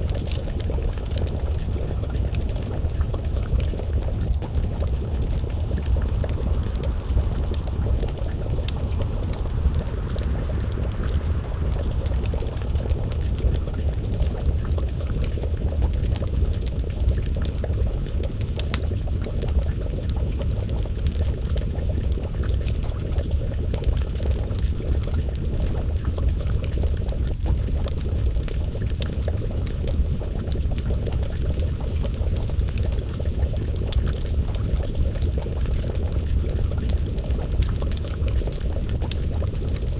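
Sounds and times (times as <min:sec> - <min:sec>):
low rumble: 0:00.0 - 0:39.9
stew simmering in a pot: 0:00.0 - 0:39.9
wood fire crackling: 0:00.0 - 0:39.9.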